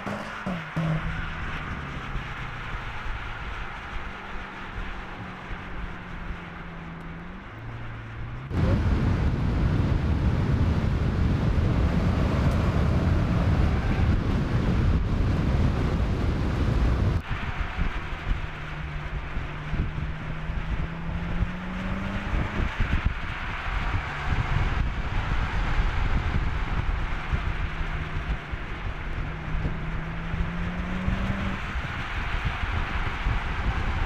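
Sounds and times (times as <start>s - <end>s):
car engine cruising: 0.0s - 34.0s
wind and road noise rumble: 0.0s - 34.0s.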